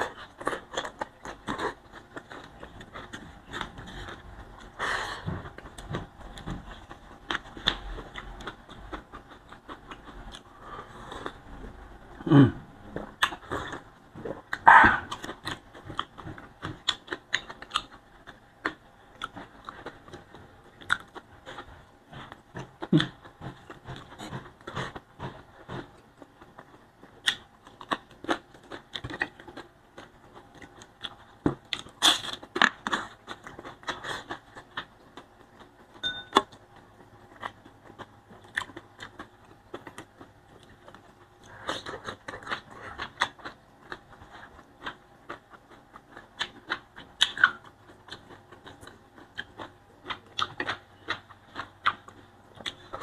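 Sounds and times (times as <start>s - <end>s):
chewing and crunching: 0.0s - 53.0s.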